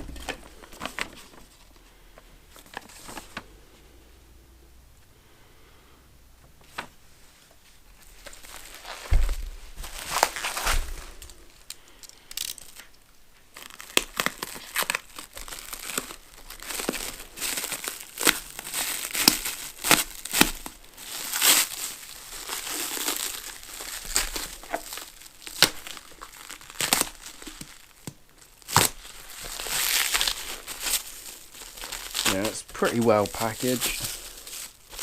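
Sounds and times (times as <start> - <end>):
packaging crinkling and tearing: 0.0 - 1.8, 2.5 - 3.5, 8.0 - 35.0.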